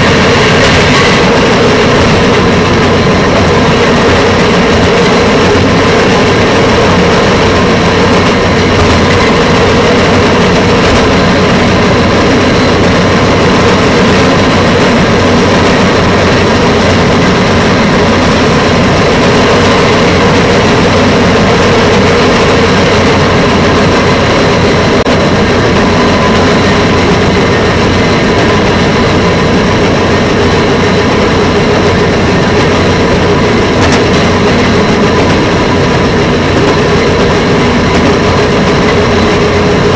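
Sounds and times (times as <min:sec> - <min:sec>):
rail vehicle droning and whining: 0:00.0 - 0:39.9.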